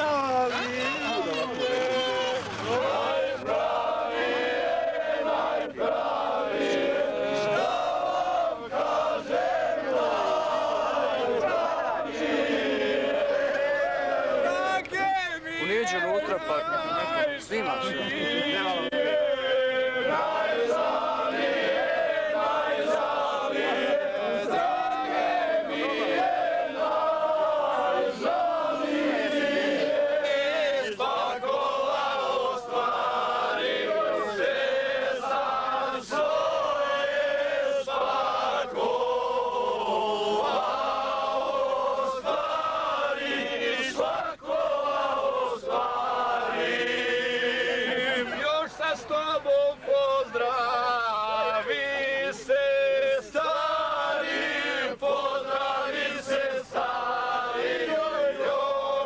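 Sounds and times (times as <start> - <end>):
men singing in chorus: 0.0 - 14.9, 16.6 - 59.0.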